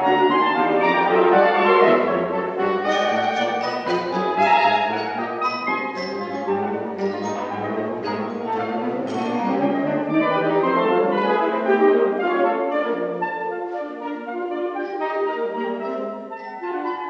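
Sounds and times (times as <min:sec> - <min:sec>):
saxophone ensemble playing chords: 0:00.0 - 0:17.0.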